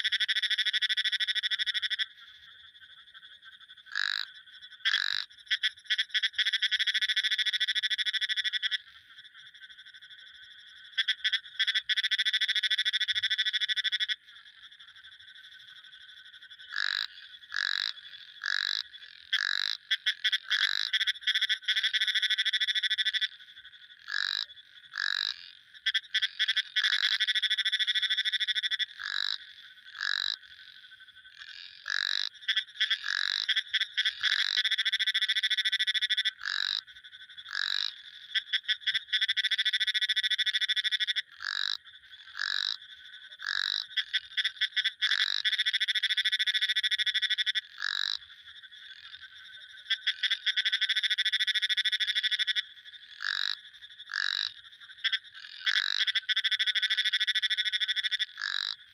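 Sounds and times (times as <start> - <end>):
frogs trilling: 0.0 - 58.9.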